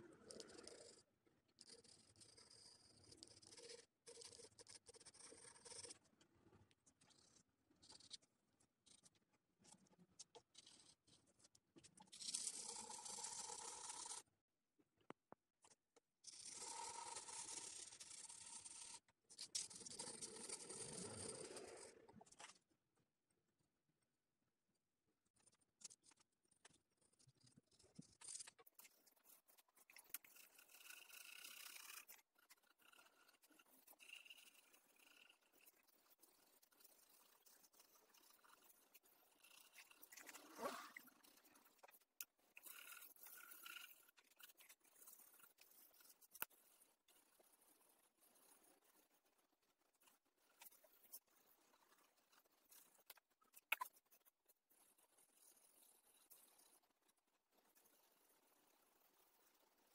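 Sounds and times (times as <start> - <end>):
pencil scratching on paper: 0.2 - 6.1, 6.9 - 9.3, 12.1 - 14.3, 16.2 - 22.4, 25.4 - 56.9.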